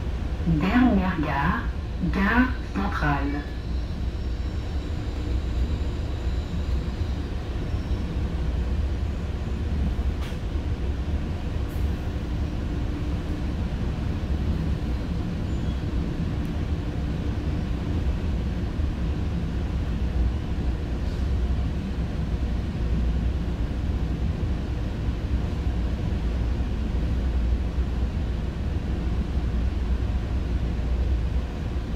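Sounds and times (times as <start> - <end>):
train rumbling on track: 0.0 - 31.9.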